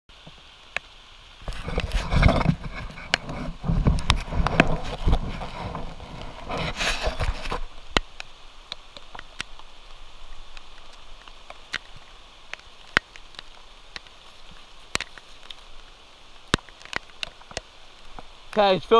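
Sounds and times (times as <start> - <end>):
rain falling: 0.1 - 18.9.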